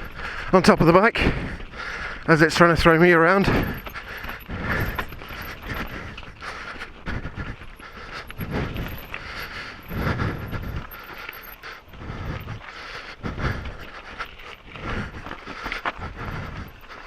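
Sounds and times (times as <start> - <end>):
heavy breathing on microphone: 0.0 - 0.6, 1.2 - 17.0
mountain bike rattling over rocks: 0.0 - 17.0.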